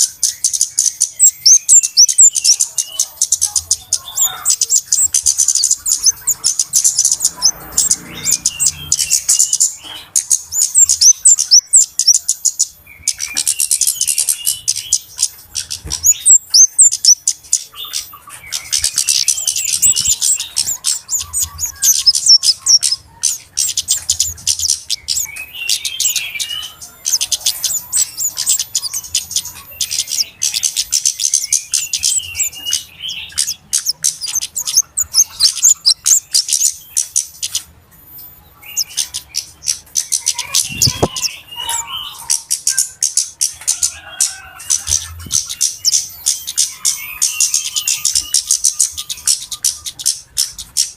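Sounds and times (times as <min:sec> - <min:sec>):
birds high-pitched chipping calls: 0:00.0 - 0:50.9.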